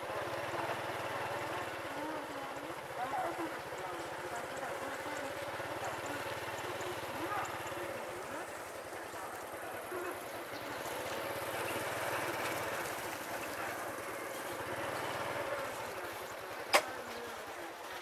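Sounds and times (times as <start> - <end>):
motorbike engine droning: 0.0 - 18.0
road noise: 0.0 - 18.0.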